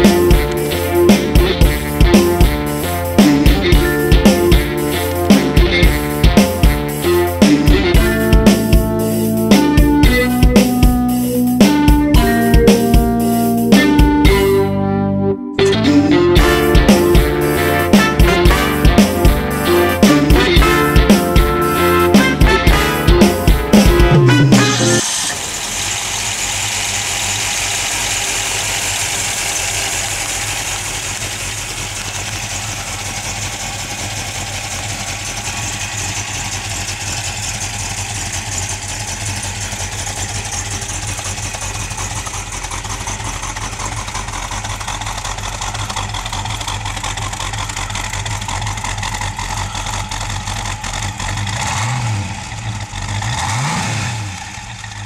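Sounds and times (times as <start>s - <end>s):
car engine idling and revving: 0.0s - 14.8s, 15.6s - 55.0s.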